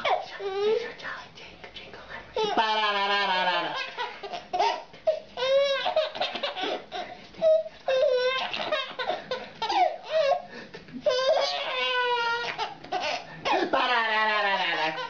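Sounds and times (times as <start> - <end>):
baby crying: 2.4 - 15.0.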